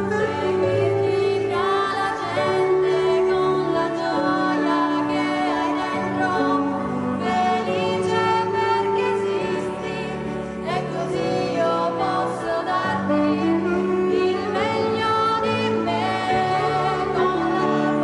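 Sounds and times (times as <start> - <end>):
woman singing into microphone: 0.0 - 18.0.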